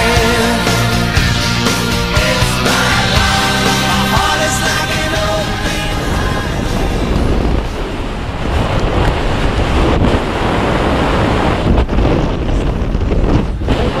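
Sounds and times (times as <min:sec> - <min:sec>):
wind rushing over microphone: 0:00.6 - 0:14.0.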